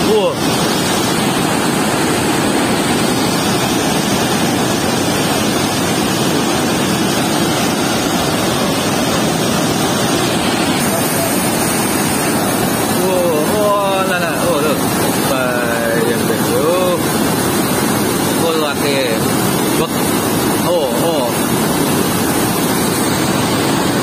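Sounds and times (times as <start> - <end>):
water rushing from sluice gate: 0.0 - 24.0.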